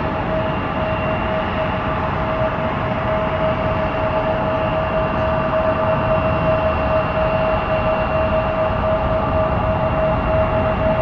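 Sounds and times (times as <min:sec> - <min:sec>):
jet engines whining: 0:00.0 - 0:11.0.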